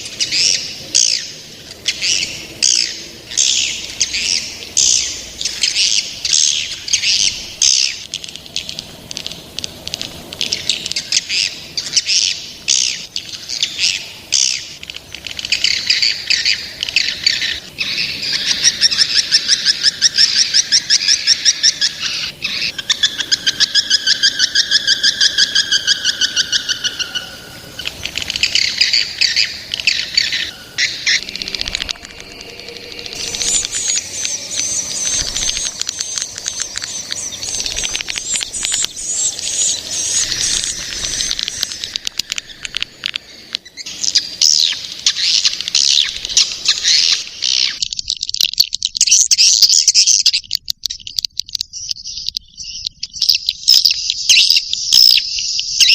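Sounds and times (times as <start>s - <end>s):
rapid buzzing bird trills: 0.0s - 47.8s
young birds chirping: 0.0s - 55.9s.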